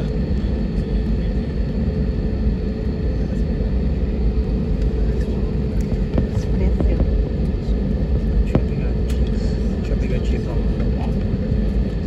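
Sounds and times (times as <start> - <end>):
airliner cabin rumble: 0.0 - 12.0
steady hum: 0.0 - 12.0.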